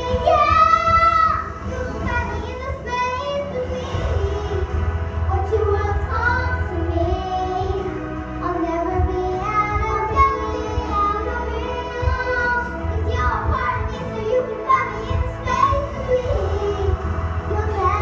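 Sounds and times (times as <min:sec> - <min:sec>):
backing music with low bass: 0:00.0 - 0:18.0
girls singing into microphones: 0:00.0 - 0:18.0.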